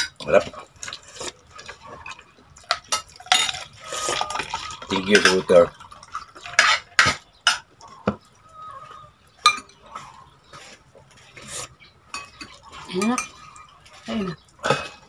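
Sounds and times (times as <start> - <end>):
dishes and cutlery clinking: 0.0 - 8.2, 9.4 - 11.5, 12.1 - 15.0.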